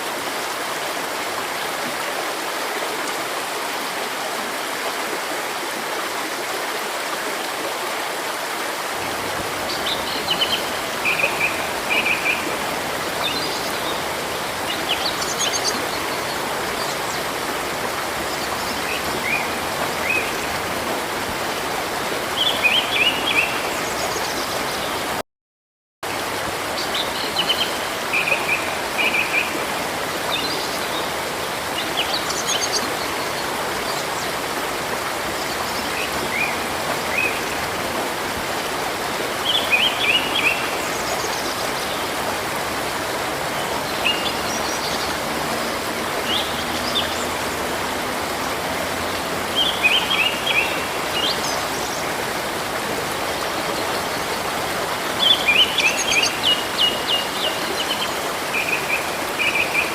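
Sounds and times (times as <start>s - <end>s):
stream running: 0.0s - 25.2s, 26.0s - 59.9s.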